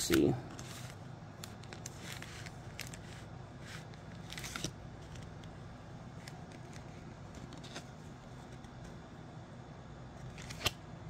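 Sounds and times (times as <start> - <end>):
cards sliding and rustling: 0.0 - 9.0, 10.2 - 10.8
steady low hum: 0.0 - 11.0.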